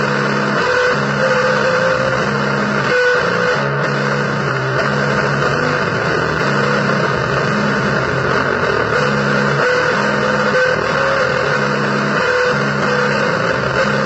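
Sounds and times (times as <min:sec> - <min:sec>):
harsh distorted noise music: 0:00.0 - 0:14.0
low guitar-like riff: 0:00.0 - 0:14.0.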